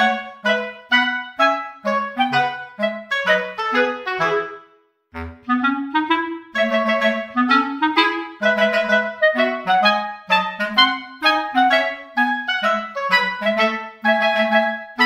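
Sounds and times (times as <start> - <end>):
bouncy background music: 0.0 - 15.0.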